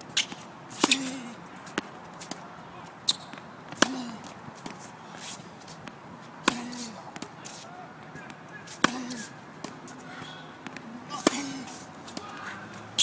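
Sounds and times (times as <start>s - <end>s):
racket hitting tennis ball: 0.1s - 2.5s, 3.1s - 13.0s
tennis ball bouncing: 0.1s - 2.5s, 3.1s - 7.4s, 8.0s - 13.0s.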